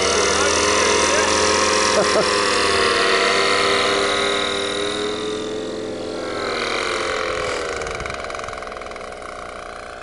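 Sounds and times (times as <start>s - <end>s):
paramotor engine droning: 0.0s - 10.0s.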